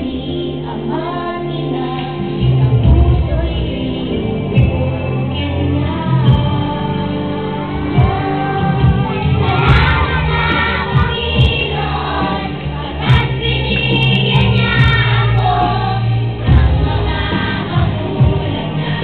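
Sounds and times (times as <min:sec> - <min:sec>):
children singing: 0:00.0 - 0:19.0
instrumental accompaniment: 0:00.2 - 0:19.0.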